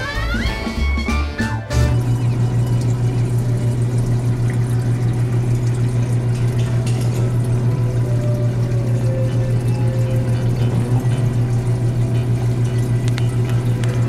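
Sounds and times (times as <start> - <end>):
aquarium pump humming: 0.0 - 14.0
water bubbling: 1.9 - 14.0.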